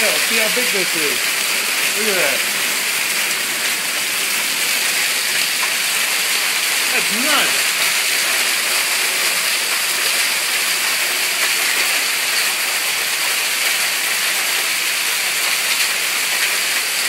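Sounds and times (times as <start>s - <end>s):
hail pouring off a roof: 0.0s - 17.0s.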